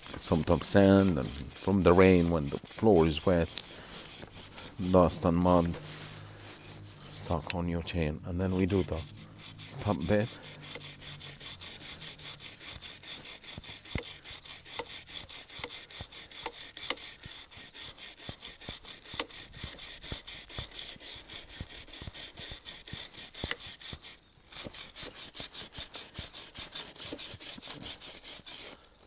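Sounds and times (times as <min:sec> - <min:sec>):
brush scrubbing a chain: 0:00.0 - 0:29.0.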